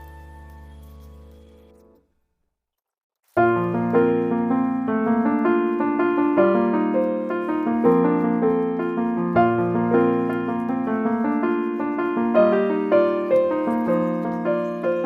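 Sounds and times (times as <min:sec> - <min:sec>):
calm piano music: 0:00.0 - 0:02.0, 0:03.4 - 0:15.0.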